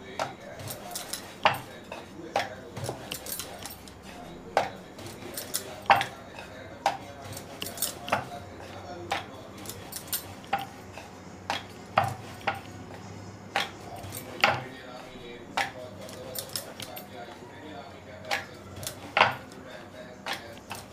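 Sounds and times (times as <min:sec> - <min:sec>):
kitchen utensils clinking: 0:00.0 - 0:20.9.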